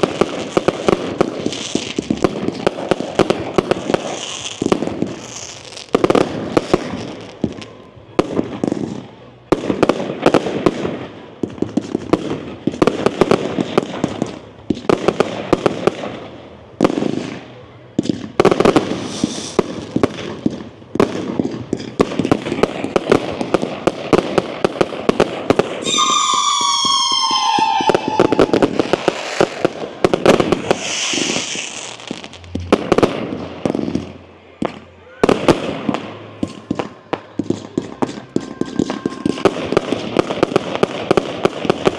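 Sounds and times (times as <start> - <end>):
whistling firework: 0.0 - 16.2, 18.4 - 20.4, 21.8 - 33.4, 34.8 - 41.9
fireworks banging and crackling: 0.0 - 41.9.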